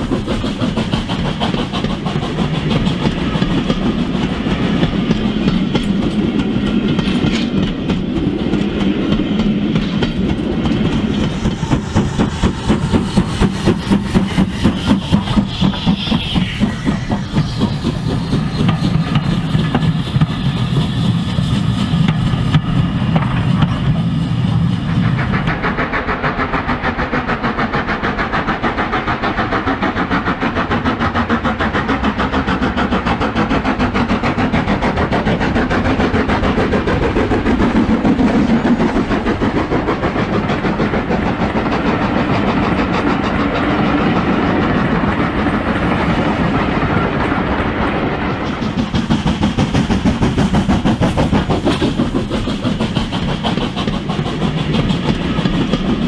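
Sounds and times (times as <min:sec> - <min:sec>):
model train wheels clicking on rails: 0:00.0 - 0:56.0.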